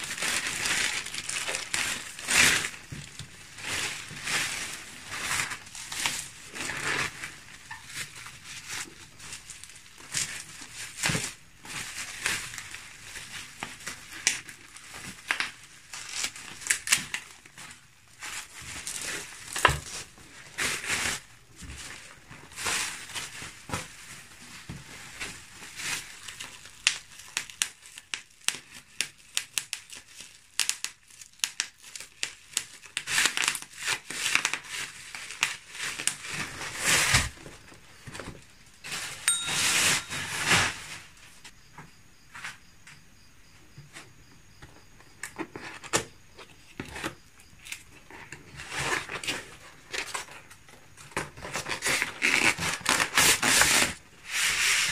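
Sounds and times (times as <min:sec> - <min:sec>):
bubble wrap crinkling: 0:00.0 - 0:41.5, 0:47.6 - 0:54.9.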